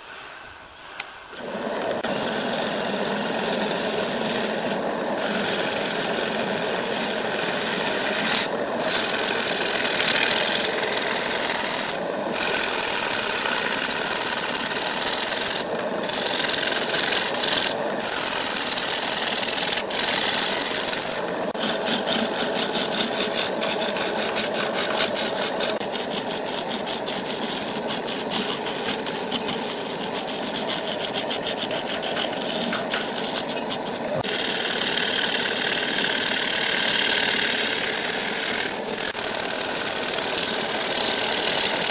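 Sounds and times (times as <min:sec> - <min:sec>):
lathe tool scraping wood: 0:01.3 - 0:41.9.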